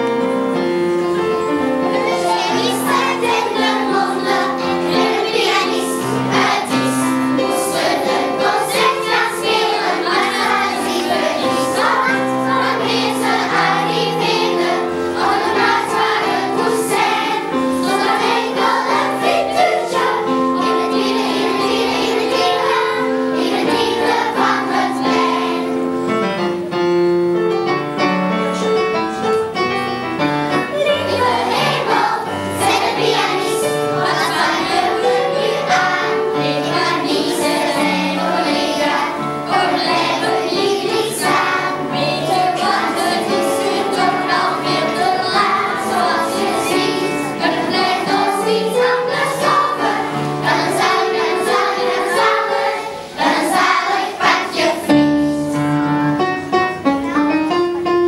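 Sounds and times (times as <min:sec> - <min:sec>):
children's choir singing: 0:00.0 - 0:57.9
instrumental accompaniment: 0:00.0 - 0:58.0.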